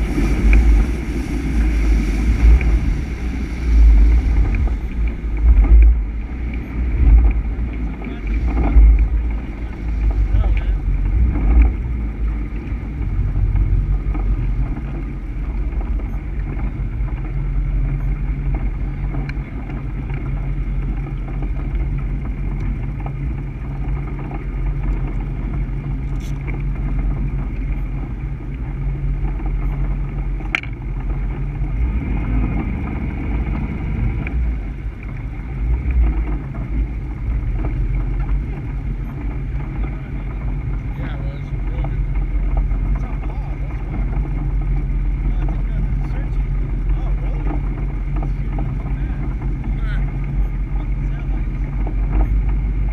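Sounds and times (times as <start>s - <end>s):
boat engine droning: 0.0s - 52.9s
water rushing over hull: 0.0s - 52.9s.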